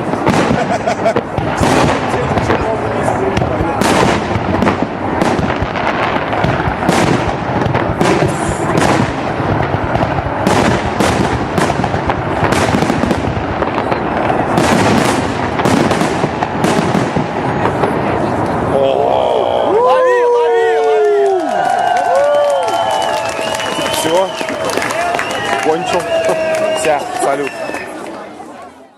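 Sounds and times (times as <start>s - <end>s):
fireworks bursting with sharp bangs: 0.0s - 18.8s, 22.7s - 28.6s.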